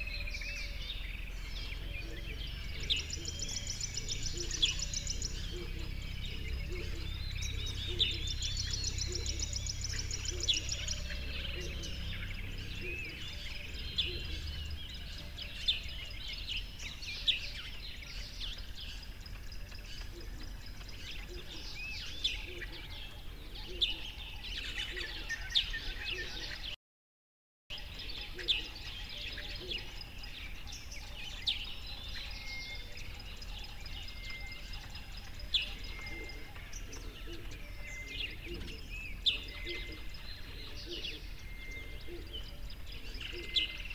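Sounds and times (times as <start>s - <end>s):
birds chirping and whistling: 0.0s - 26.8s, 27.7s - 43.9s.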